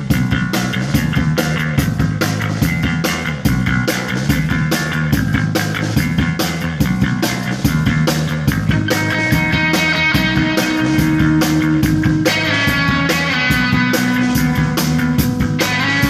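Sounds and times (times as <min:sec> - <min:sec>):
drums and cymbals beat: 0:00.0 - 0:16.0
rock band playing live: 0:00.0 - 0:16.0.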